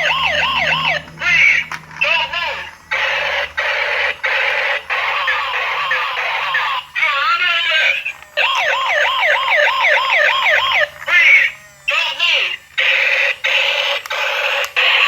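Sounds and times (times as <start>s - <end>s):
toy siren through small speaker: 0.0s - 15.0s
hissy radio-like noise: 0.8s - 15.0s.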